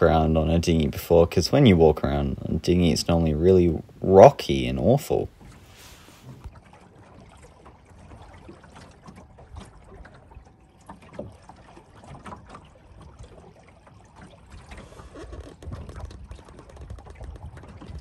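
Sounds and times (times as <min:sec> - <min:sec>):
water lapping against hull: 0:00.0 - 0:18.0.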